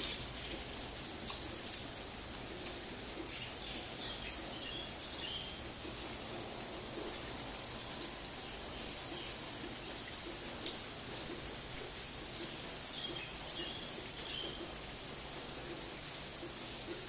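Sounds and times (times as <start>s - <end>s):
rain on paving and leaves: 0.0s - 17.0s
water drips ticking: 0.0s - 17.0s.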